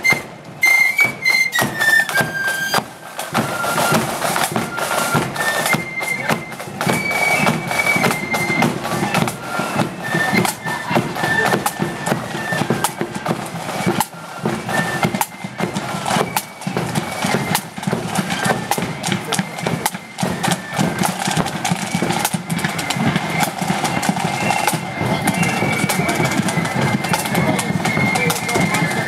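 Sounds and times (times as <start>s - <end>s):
high flute tones: 0.0s - 29.0s
marching drums: 0.0s - 29.0s.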